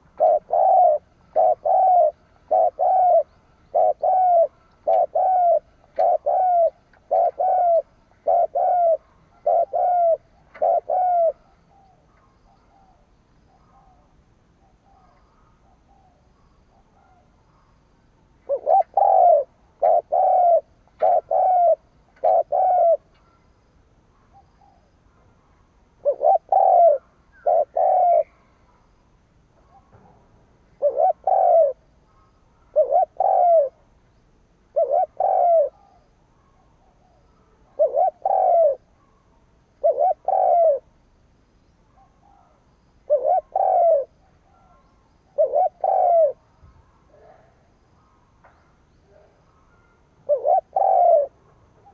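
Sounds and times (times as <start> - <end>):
dove cooing: 0.0 - 17.8, 18.4 - 23.5, 24.2 - 28.9, 30.6 - 34.0, 34.6 - 41.0, 41.9 - 48.3, 49.1 - 51.9.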